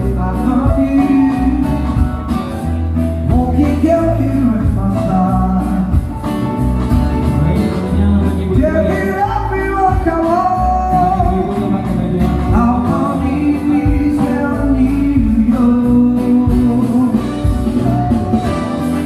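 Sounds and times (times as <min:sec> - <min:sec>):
person singing: 0:00.0 - 0:06.2, 0:07.1 - 0:19.0
guitar: 0:00.0 - 0:19.0
heavy steady bass: 0:00.0 - 0:19.0.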